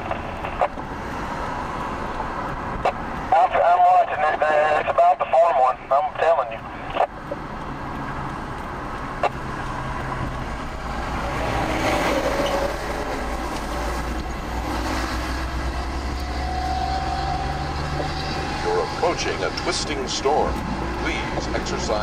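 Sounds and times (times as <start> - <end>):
truck engine and tyre noise: 0.0 - 22.0.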